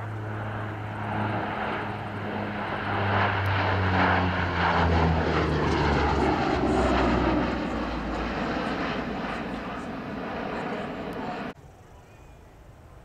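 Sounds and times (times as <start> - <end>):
turboprop aircraft passing: 0.0 - 11.6.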